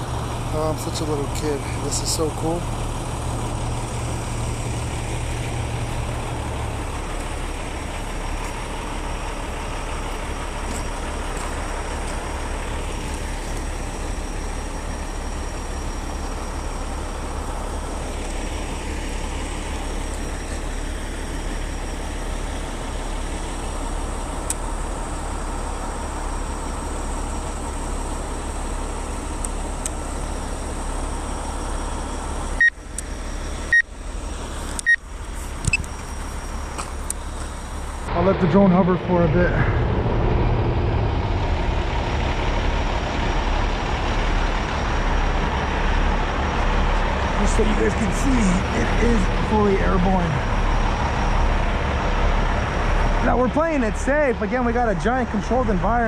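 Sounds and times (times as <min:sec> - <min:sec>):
diesel trucks idling: 0:00.0 - 0:56.0.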